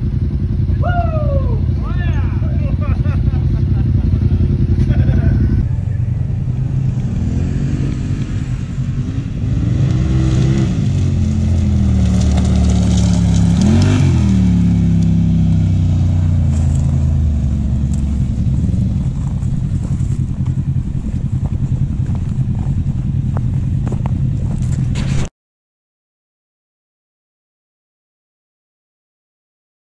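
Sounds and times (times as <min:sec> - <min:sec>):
off-road vehicle engines revving: 0:00.0 - 0:25.3.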